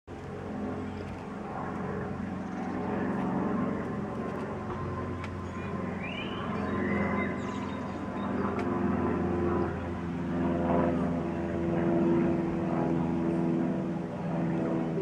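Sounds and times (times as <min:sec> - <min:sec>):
light aircraft engine drone: 0:00.1 - 0:15.0.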